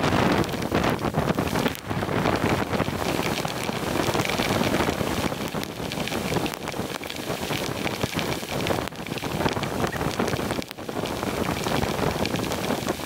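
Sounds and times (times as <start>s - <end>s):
heavy rain on sea: 0.0s - 13.0s
raindrops striking nearby: 0.0s - 13.0s.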